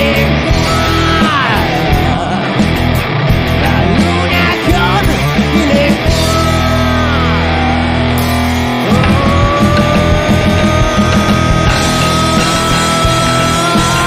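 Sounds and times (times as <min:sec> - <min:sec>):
distorted electric guitar bending: 0:00.0 - 0:14.0
held bass notes: 0:00.0 - 0:14.0.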